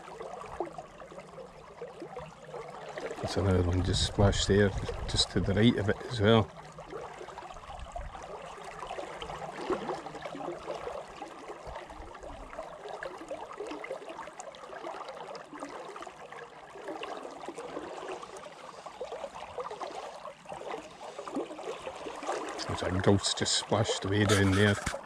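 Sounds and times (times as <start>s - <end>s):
river water lapping and gurgling: 0.0s - 25.0s.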